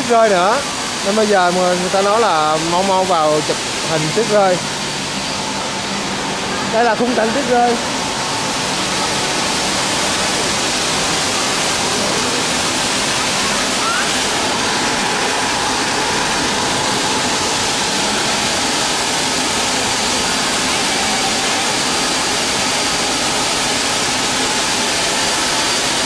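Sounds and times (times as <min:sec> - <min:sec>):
snow machine rushing hiss: 0:00.0 - 0:26.0.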